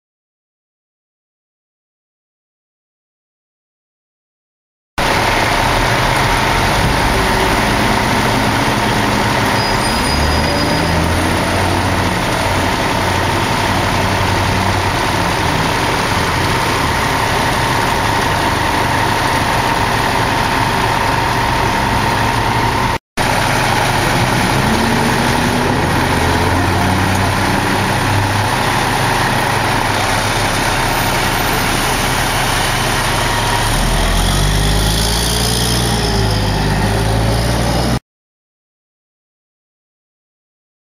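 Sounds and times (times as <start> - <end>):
fire truck diesel engines: 5.0 - 38.0.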